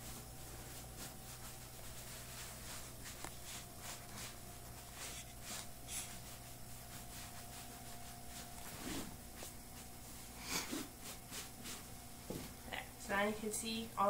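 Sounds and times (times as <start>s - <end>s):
sponge scrubbing leather: 0.0s - 11.9s.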